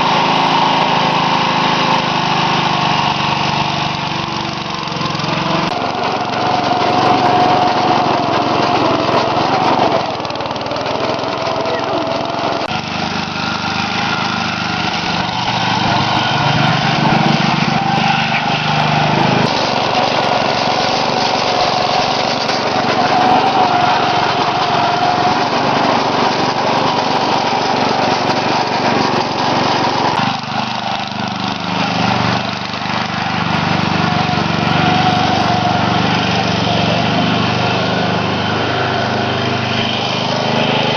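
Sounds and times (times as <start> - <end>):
lawn tractor engine running: 0.0 - 40.9.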